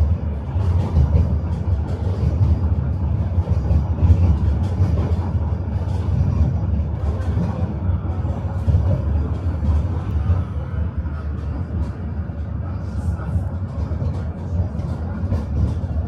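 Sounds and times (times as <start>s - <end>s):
tram wheels rumbling on rails: 0.0s - 16.0s.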